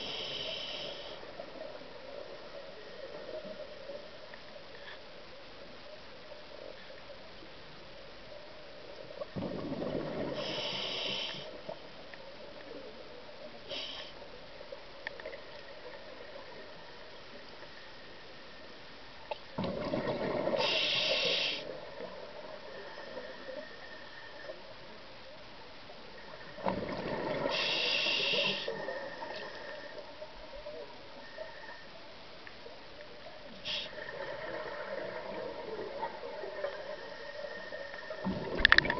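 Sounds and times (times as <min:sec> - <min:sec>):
steady low hiss: 0:00.0 - 0:38.9.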